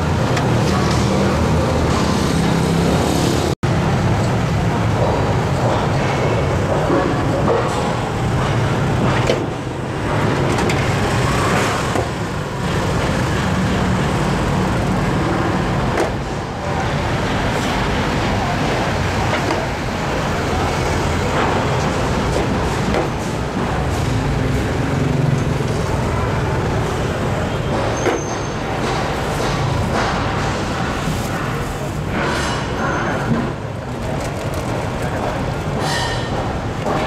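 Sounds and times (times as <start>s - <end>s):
motorbike engines: 0.0s - 37.0s
road noise: 0.0s - 37.0s.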